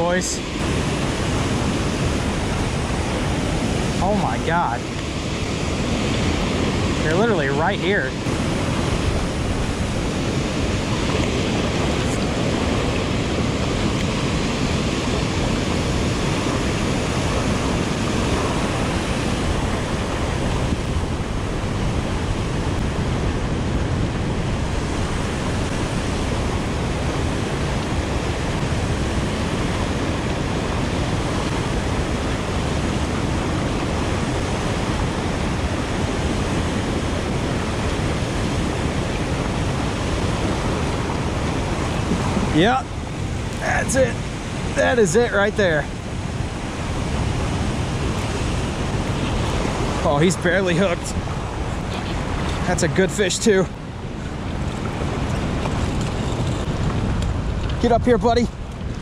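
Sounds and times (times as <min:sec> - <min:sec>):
rushing water roar: 0:00.0 - 0:59.0.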